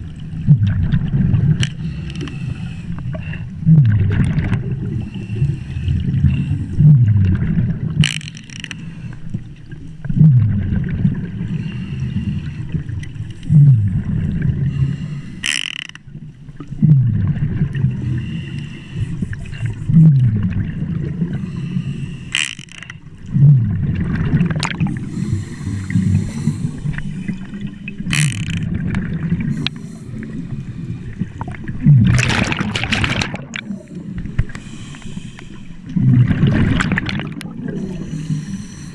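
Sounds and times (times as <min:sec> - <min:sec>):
exhaled bubbles rumbling underwater: 0:00.0 - 0:15.4, 0:16.1 - 0:38.9.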